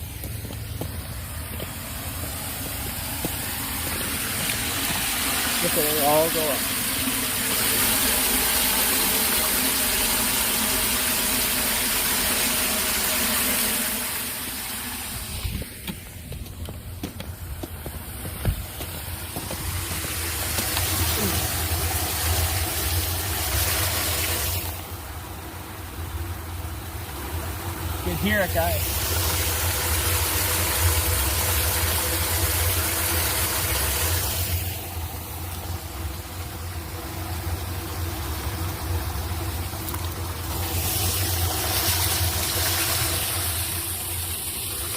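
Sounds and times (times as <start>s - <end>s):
floodwater rushing down drain: 0.0s - 44.9s.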